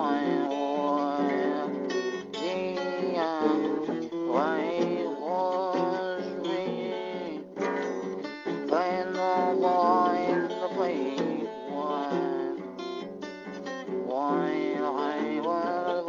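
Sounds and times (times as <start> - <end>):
strummed acoustic guitar music: 0.0 - 16.0.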